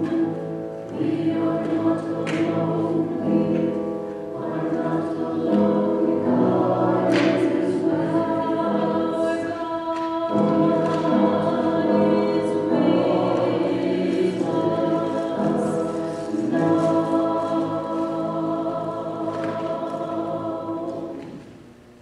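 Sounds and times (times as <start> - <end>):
church choir singing: 0.0 - 21.6.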